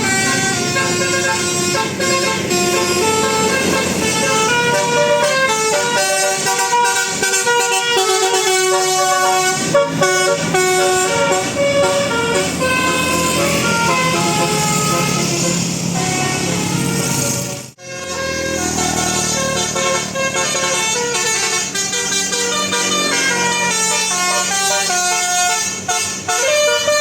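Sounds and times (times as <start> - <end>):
bus air horn tune: 0.0 - 27.0.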